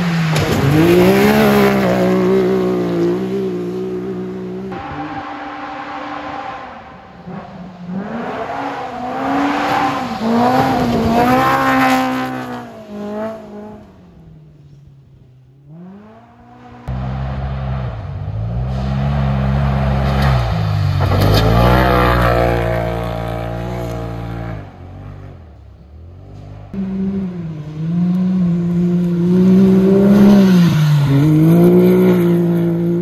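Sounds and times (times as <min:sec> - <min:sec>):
off-road vehicle engines revving: 0:00.0 - 0:33.0.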